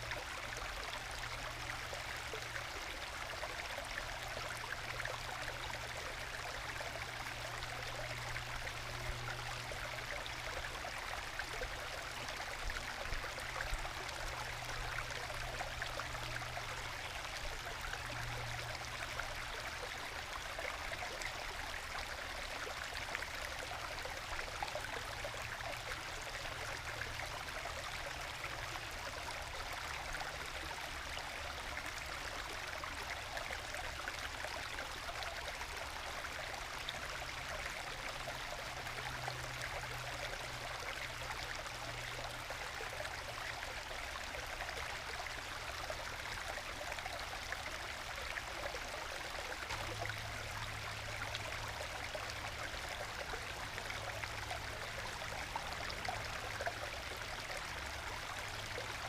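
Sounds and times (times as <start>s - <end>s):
stream babbling over small waterfalls: 0.0s - 59.0s.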